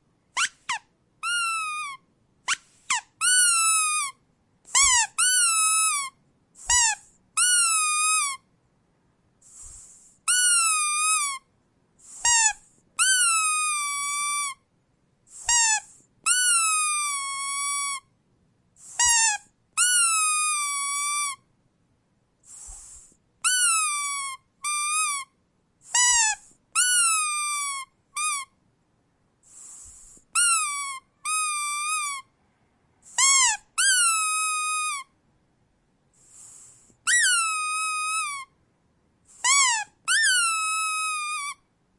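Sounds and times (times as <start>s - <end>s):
rubber squeak toy squeaking: 0.0s - 8.5s, 9.5s - 14.7s, 15.3s - 18.1s, 18.8s - 21.5s, 22.5s - 28.6s, 29.5s - 32.3s, 33.1s - 35.2s, 36.4s - 38.6s, 39.3s - 41.6s.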